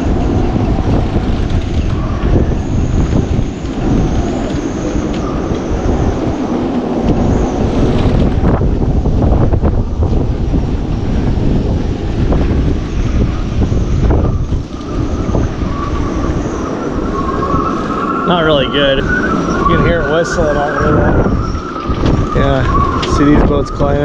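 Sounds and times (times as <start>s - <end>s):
wind buffeting microphone: 0.0s - 24.0s
wind whistling in rigging: 0.0s - 24.0s.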